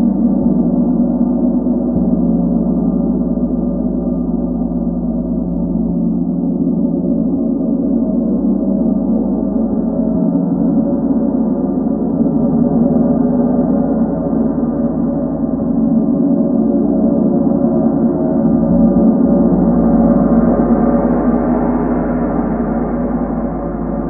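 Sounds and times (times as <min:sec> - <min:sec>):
gong sustained wash: 0:00.0 - 0:24.0.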